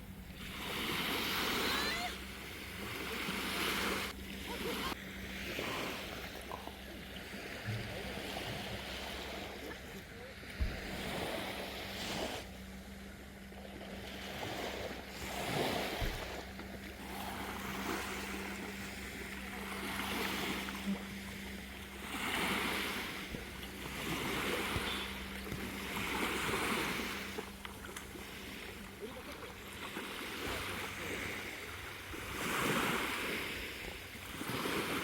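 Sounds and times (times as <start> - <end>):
small waves washing in: 0.0 - 35.0
steady low hum: 2.2 - 32.4.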